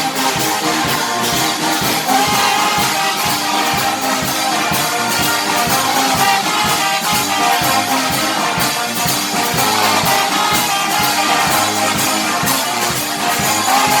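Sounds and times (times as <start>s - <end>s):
music with steady beat: 0.0s - 14.0s.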